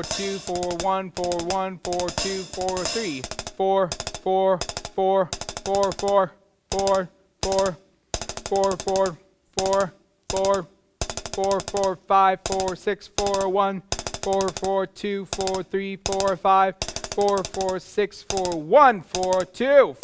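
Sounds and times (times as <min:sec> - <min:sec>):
drumsticks clicking on hi-hat: 0:00.0 - 0:20.0.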